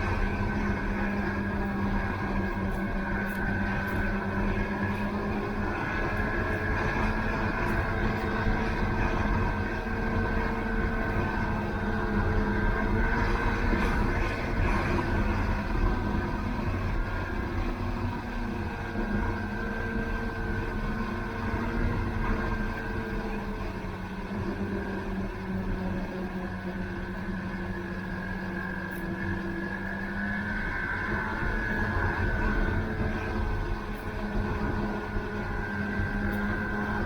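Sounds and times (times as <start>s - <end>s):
snowmobile engine droning: 0.0s - 37.0s.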